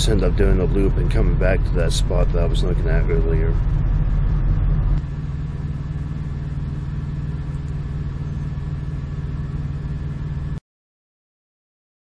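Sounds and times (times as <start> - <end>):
truck diesel engine rumbling: 0.0 - 9.9.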